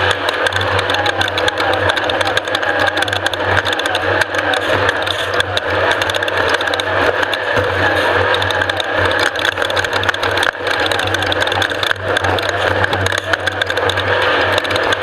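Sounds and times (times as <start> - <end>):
engine running steadily: 0.0 - 15.0
rapid rattles and knocks: 0.0 - 15.0.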